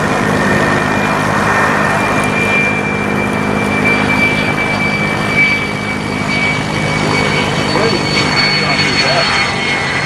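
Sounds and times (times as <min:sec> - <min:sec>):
engine running with high whine: 0:00.0 - 0:10.0.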